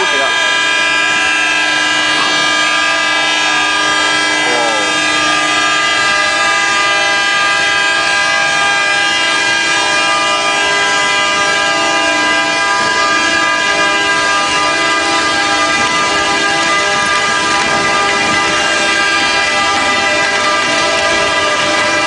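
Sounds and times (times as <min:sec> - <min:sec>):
horns sounding a held chord: 0:00.0 - 0:22.0.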